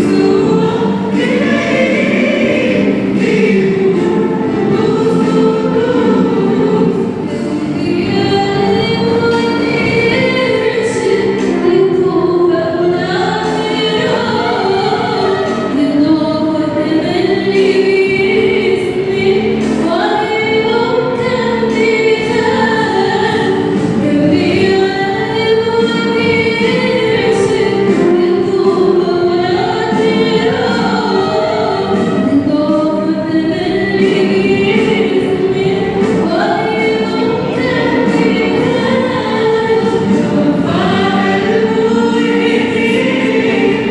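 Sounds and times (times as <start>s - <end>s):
mixed choir singing a hymn: 0.0s - 43.9s.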